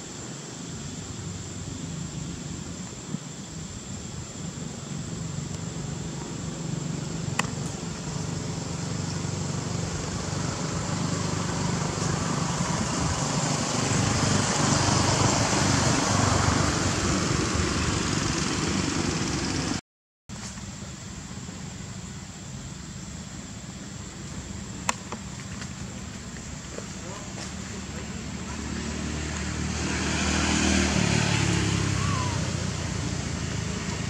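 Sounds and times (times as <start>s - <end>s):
vehicle engine running: 4.5s - 19.8s, 20.5s - 34.0s.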